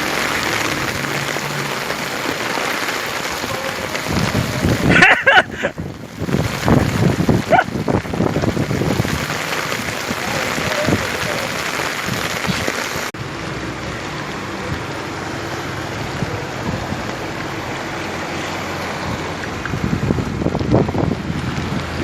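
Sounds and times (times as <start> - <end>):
wind buffeting microphone: 0.0 - 13.1, 14.4 - 22.0
heavy rain hissing: 0.0 - 22.0.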